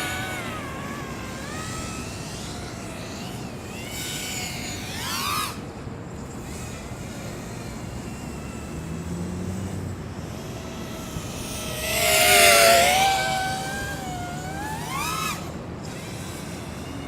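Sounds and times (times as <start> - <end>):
racing drone motors whining: 0.0 - 17.0.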